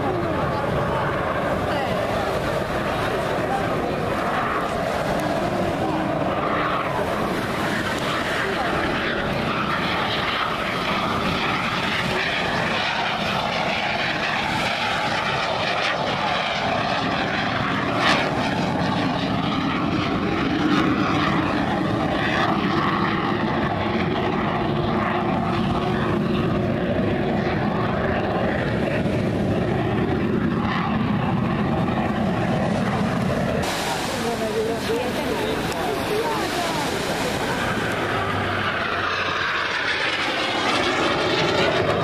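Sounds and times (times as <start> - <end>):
jet engine rushing in flight: 0.0 - 42.0.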